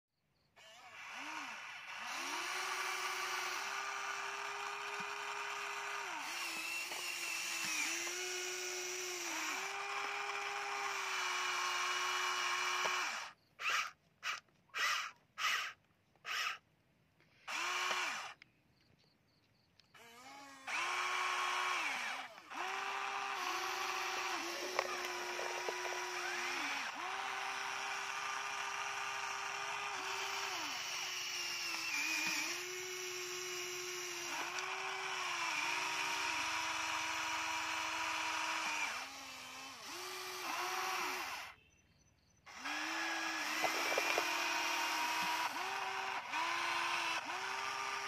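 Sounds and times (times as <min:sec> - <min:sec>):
toy excavator motors whining: 0:00.4 - 0:48.0.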